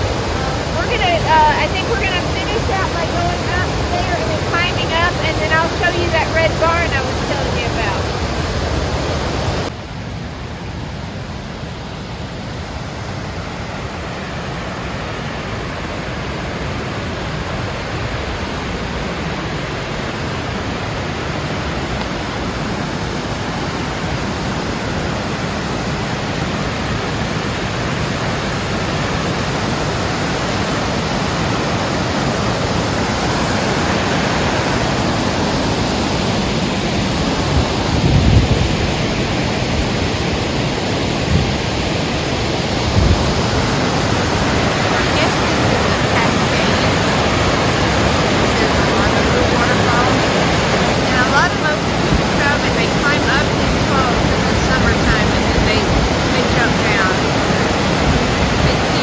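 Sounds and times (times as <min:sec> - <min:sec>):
waterfall roar: 0:00.0 - 0:59.0.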